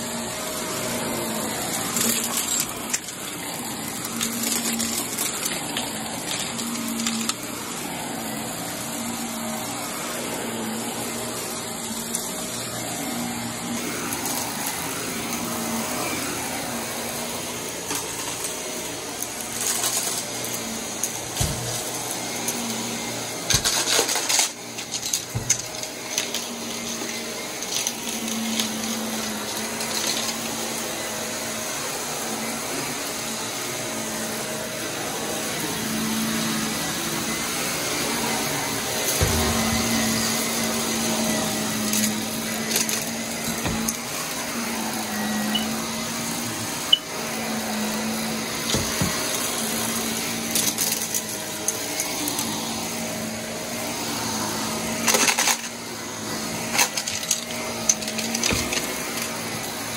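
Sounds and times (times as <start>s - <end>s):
vacuum cleaner motor hum: 0.0s - 59.9s.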